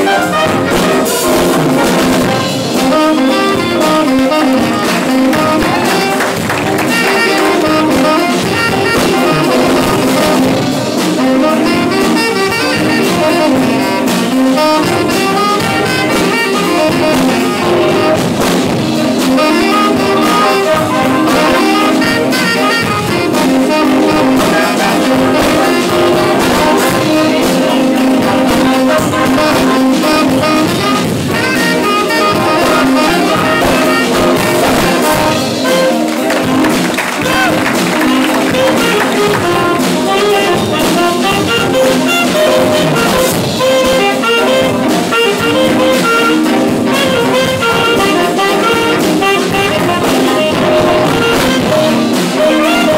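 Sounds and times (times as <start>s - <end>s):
drum kit beat: 0.0s - 52.9s
saxophones and brass: 0.0s - 52.9s.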